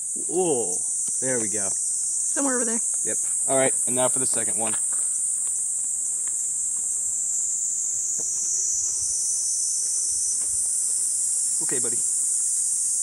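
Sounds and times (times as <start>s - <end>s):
cicadas droning: 0.0s - 13.0s
insect net rustling: 0.0s - 13.0s.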